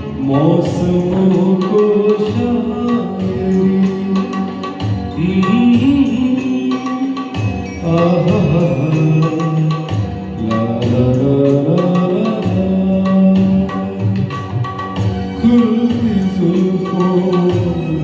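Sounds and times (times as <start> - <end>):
gliding melodic line: 0.0 - 18.0
tabla playing a rhythm: 0.0 - 18.0.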